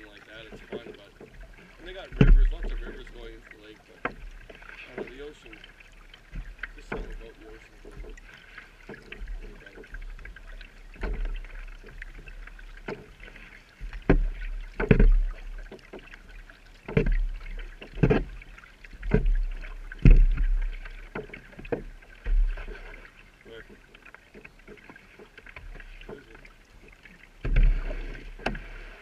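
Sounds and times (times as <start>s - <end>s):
kayak paddle splashing: 0.0s - 29.0s
paddle knocking: 0.0s - 29.0s.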